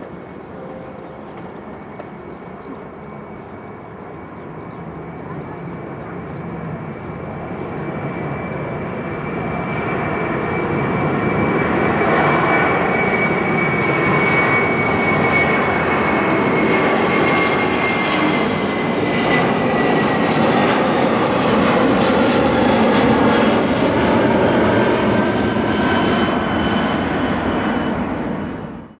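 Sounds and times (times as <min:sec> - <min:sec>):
high jet whine: 0:00.0 - 0:28.9
jet engines at takeoff: 0:00.0 - 0:29.0.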